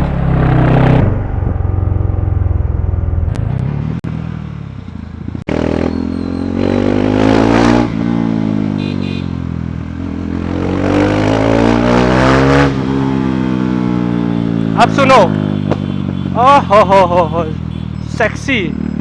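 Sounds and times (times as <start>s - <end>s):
motorcycle engine accelerating hard: 0.0s - 19.0s.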